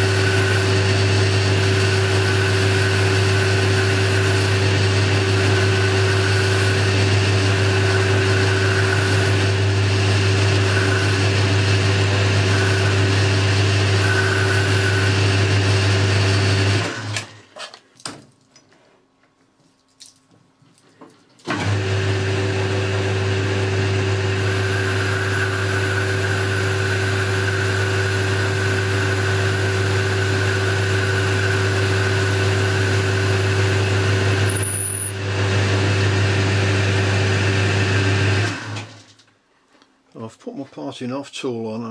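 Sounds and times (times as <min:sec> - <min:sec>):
lathe motor humming: 0:00.0 - 0:17.1, 0:21.5 - 0:38.9.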